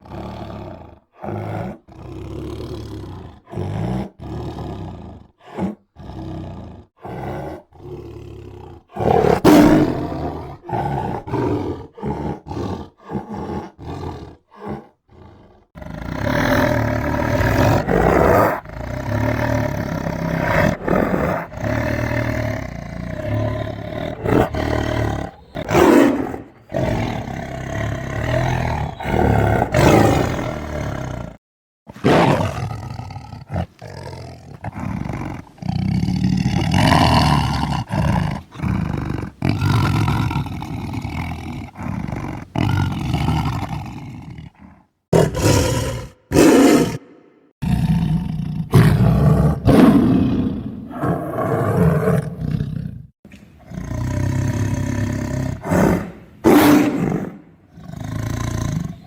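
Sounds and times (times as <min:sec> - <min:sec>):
tiger growling and roaring: 0:00.0 - 0:59.0.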